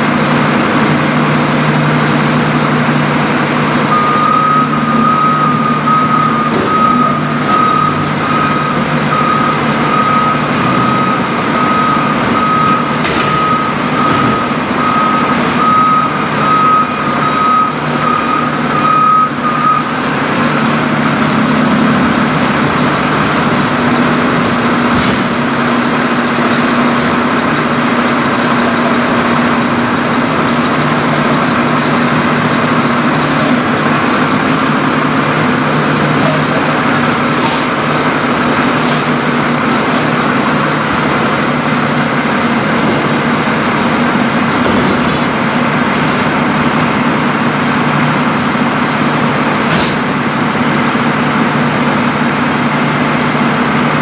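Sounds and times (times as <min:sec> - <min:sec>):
diesel engine running: 0:00.0 - 0:54.0
truck reversing alarm beeping: 0:00.0 - 0:54.0.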